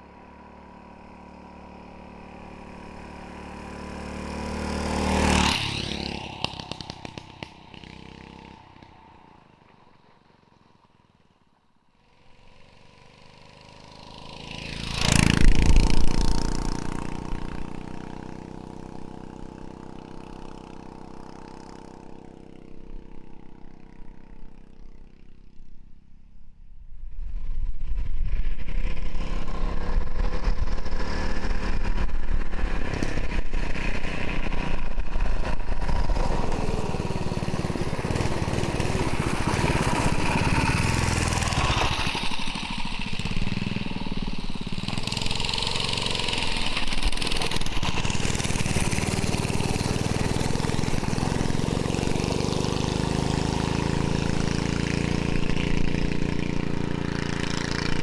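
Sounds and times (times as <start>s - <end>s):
minibike engine running: 0.0s - 11.2s, 12.2s - 25.6s, 28.3s - 58.0s.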